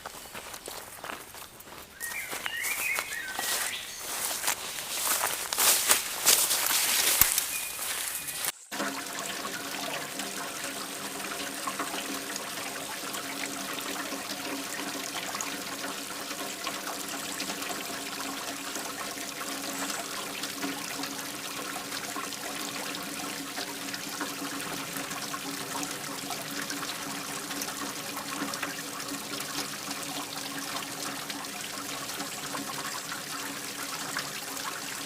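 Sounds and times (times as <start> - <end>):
water trickling: 0.0 - 35.0.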